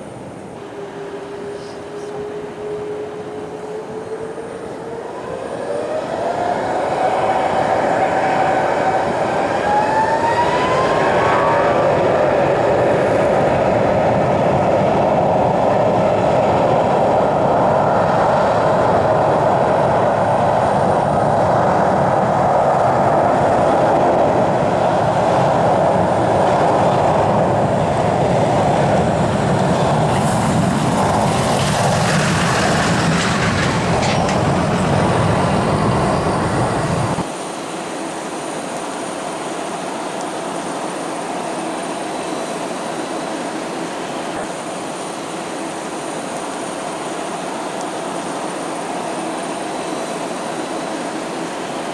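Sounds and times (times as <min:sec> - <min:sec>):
jet engine roar: 0:00.0 - 0:51.9
jet engine whine: 0:00.0 - 0:51.9.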